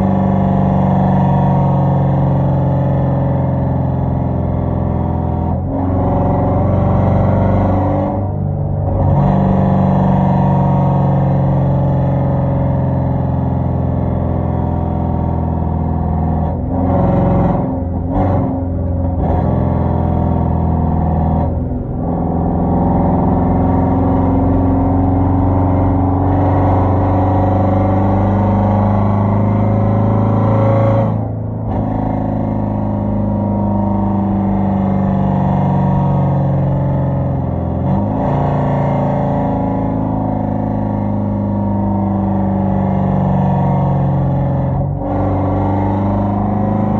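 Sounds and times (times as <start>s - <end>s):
car engine exhaust drone: 0.0s - 46.9s.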